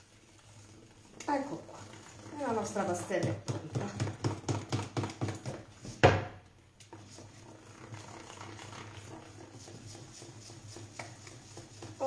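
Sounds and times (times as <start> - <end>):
utensil beating batter in bowl: 0.0 - 12.0.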